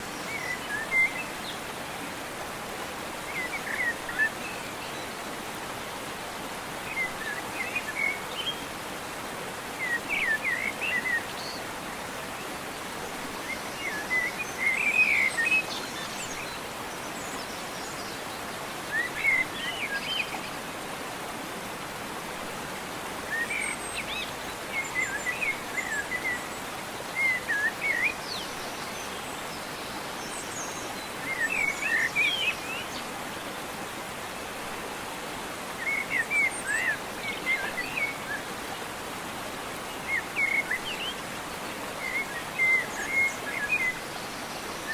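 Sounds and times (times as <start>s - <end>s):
steady background hiss: 0.0s - 44.9s.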